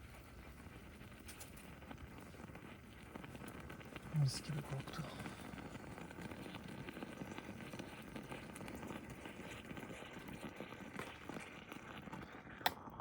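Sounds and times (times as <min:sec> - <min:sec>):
food crackling over campfire: 0:00.0 - 0:13.0.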